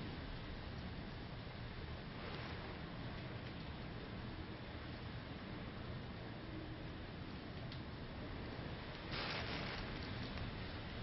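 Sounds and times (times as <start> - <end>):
hurricane wind: 0.0 - 11.0
rain rushing outside a window: 0.0 - 11.0.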